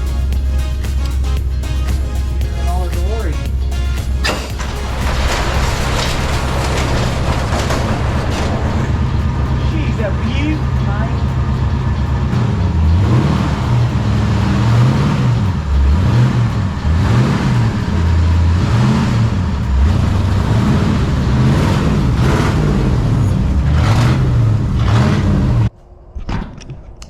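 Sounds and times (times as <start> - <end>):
truck engine revving: 0.0 - 25.7.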